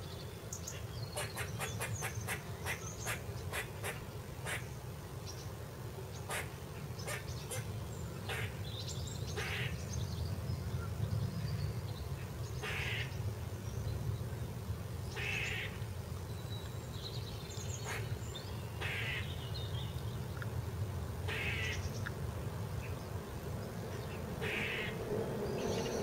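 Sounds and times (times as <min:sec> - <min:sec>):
birds chirping: 0:00.0 - 0:14.5, 0:15.1 - 0:20.6, 0:21.2 - 0:26.0.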